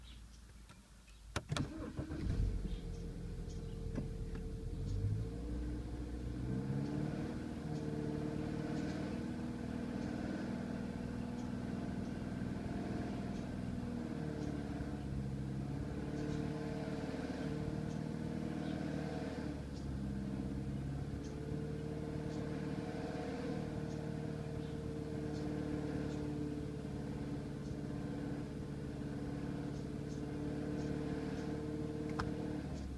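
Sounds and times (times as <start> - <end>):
car engine cranking and starting: 1.3 - 32.9
car engine idling: 1.5 - 32.9.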